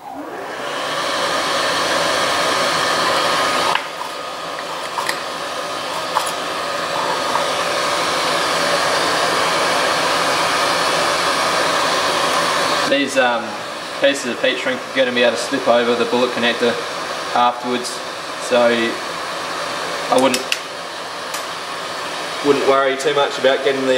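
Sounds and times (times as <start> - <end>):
extractor fan whooshing: 0.0 - 23.9.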